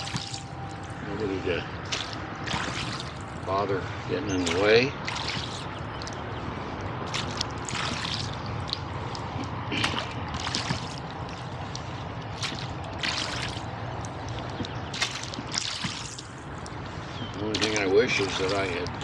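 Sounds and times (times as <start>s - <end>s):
water dripping from oars: 0.0s - 1.0s, 1.7s - 3.5s, 4.3s - 19.0s
low steady rumble: 0.0s - 19.0s
oars dipping in water: 0.0s - 19.0s.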